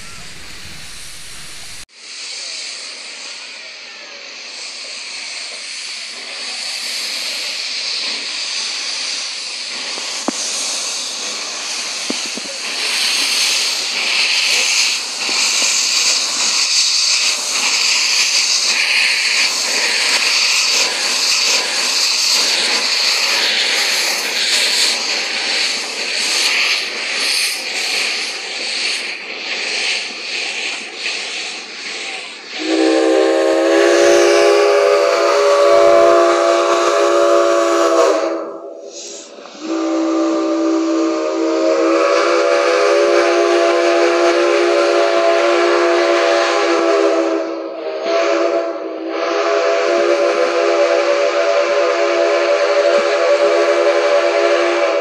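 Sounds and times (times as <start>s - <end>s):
steam locomotive venting steam: 0.0s - 55.0s.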